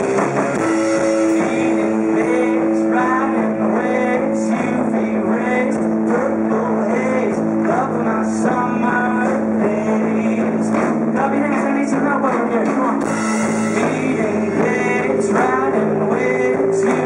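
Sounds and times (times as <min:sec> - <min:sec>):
drums: 0:00.0 - 0:17.0
electric guitars: 0:00.0 - 0:17.0.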